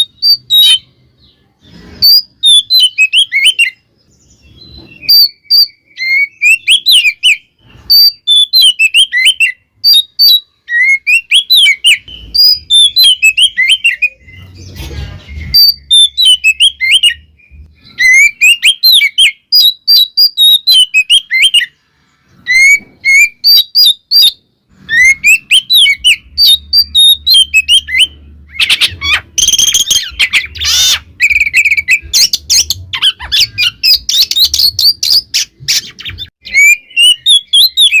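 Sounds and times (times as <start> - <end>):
songbird whistling and chattering: 0.0 - 38.0.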